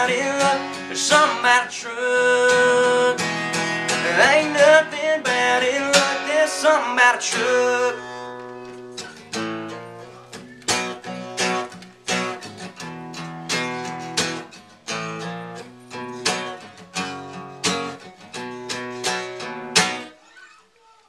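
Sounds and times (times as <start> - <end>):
acoustic guitar strumming: 0.0 - 20.1.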